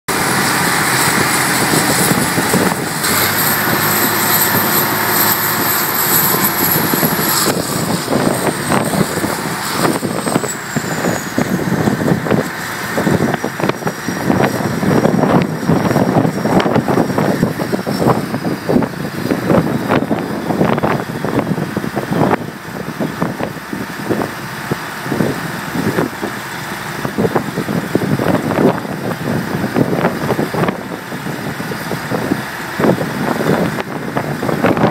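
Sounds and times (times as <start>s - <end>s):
heavy engine rumbling: 0.1s - 34.9s.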